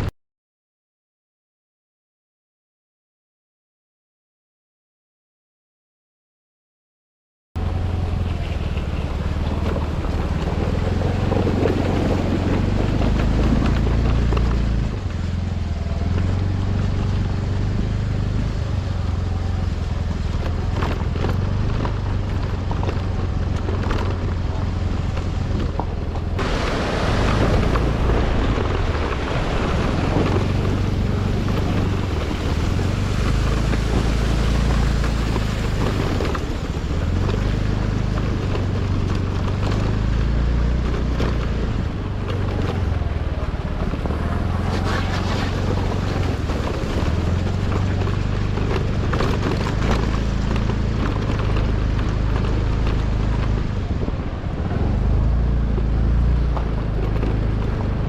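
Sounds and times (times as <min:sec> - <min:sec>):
vehicle engine running: 0:07.6 - 0:58.0
wind buffeting microphone: 0:07.6 - 0:58.0.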